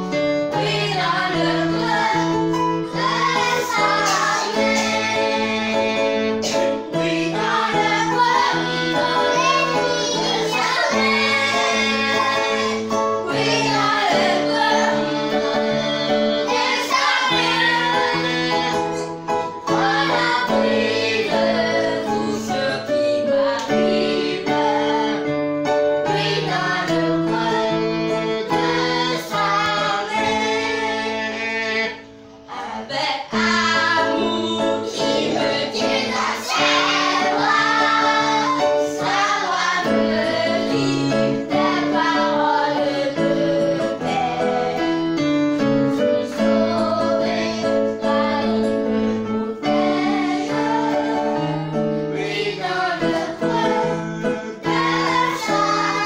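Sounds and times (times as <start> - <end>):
children's worship song: 0.0 - 56.0.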